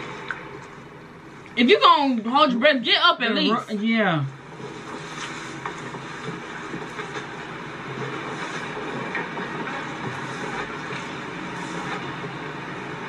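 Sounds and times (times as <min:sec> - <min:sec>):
rumbling crackly drone: 0:00.0 - 0:13.0.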